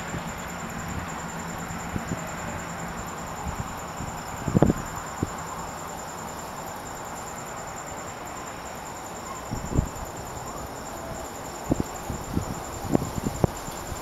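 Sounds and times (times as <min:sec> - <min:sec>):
crickets chirping: 0:00.0 - 0:14.0
steady hiss: 0:00.0 - 0:14.0.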